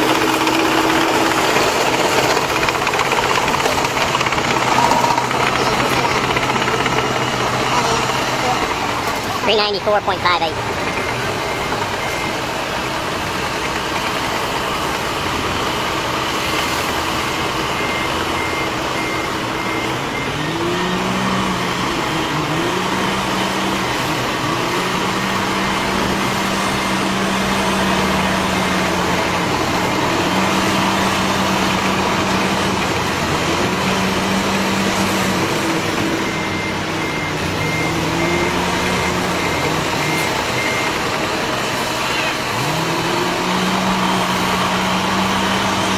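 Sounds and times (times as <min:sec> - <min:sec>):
heavy machinery engine running: 0:00.0 - 0:45.9
reversing alarm beeping: 0:00.0 - 0:45.9.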